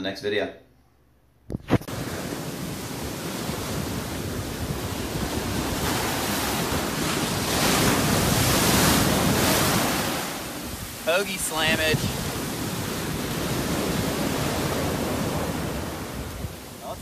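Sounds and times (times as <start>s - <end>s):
wind buffeting microphone: 1.5s - 17.0s
ocean surf breaking: 1.8s - 17.0s.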